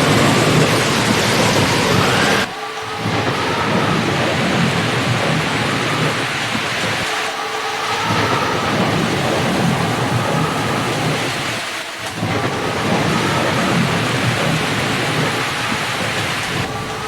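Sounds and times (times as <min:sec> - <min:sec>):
heavy rain falling: 0:00.0 - 0:17.0
thunder rumbling: 0:00.0 - 0:17.0.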